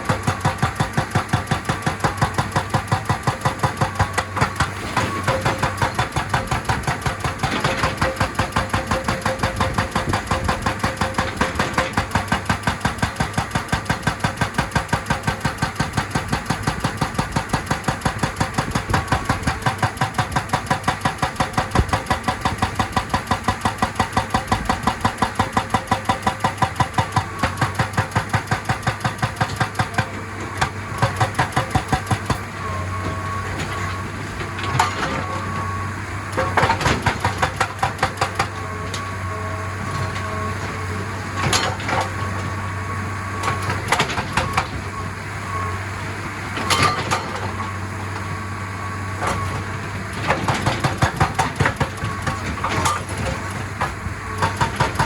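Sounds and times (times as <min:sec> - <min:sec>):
diesel engine running: 0:00.0 - 0:55.0
hydraulic breaker hammering rock: 0:00.0 - 0:55.0.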